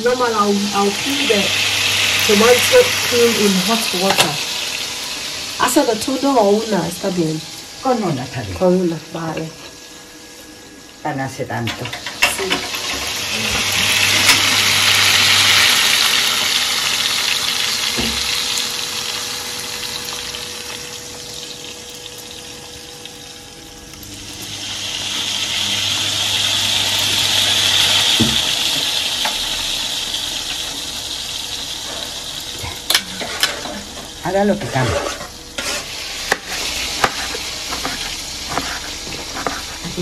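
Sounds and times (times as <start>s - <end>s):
chicken frying in oil: 0.0s - 10.1s, 12.1s - 40.0s.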